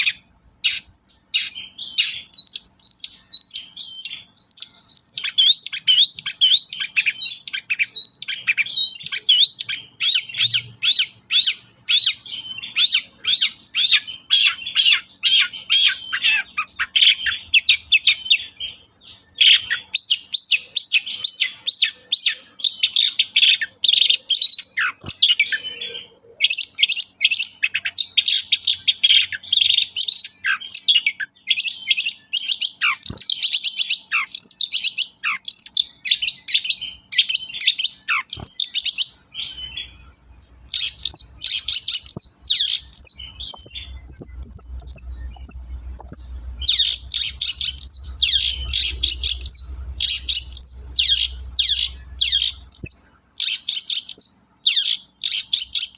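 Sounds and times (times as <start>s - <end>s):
bird singing: 0.0s - 55.9s.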